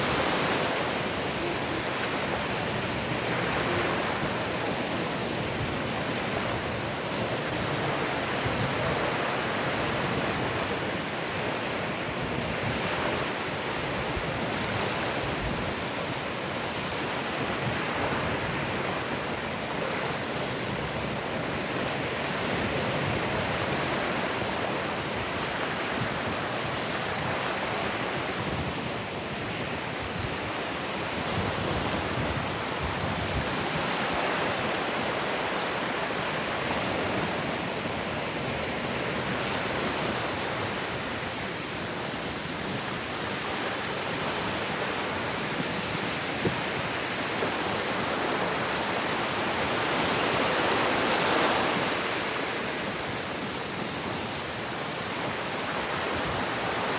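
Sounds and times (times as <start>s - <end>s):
ocean surf on sandy beach: 0.0s - 56.9s.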